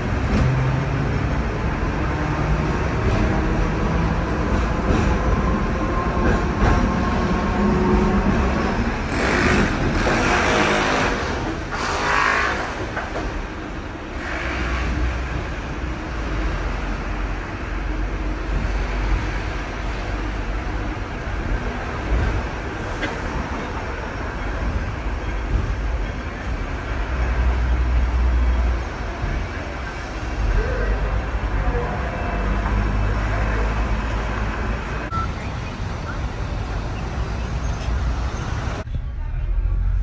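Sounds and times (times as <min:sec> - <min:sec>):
bus engine rumble: 0:00.0 - 0:40.0.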